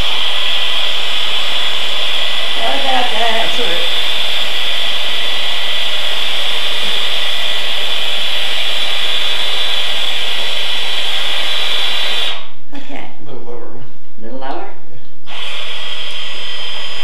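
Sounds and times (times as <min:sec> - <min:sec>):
electric drill running under load: 0:00.0 - 0:12.5, 0:15.3 - 0:17.0.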